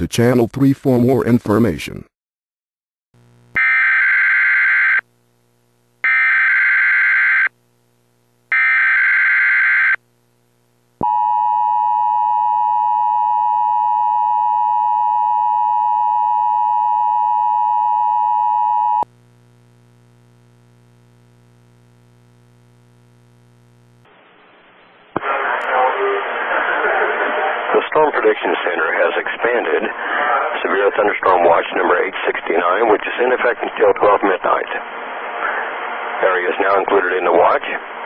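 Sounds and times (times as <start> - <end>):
faint hum: 3.2 - 38.0.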